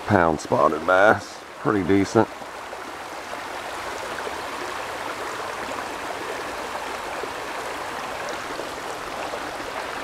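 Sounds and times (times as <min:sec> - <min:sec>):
creek water flowing: 0:00.0 - 0:10.0.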